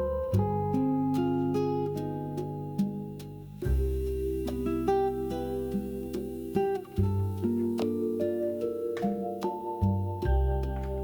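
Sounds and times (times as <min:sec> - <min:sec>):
low bass line: 0:00.0 - 0:11.0
plucked acoustic guitar: 0:00.0 - 0:11.0.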